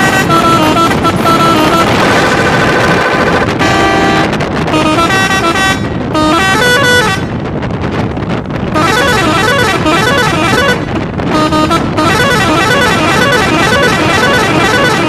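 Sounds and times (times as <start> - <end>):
fast warbling horn trill: 0.0 - 7.4, 8.7 - 15.0
bus musical horn playing tune: 0.0 - 7.6, 8.7 - 15.0
bus road and engine noise: 0.0 - 15.0.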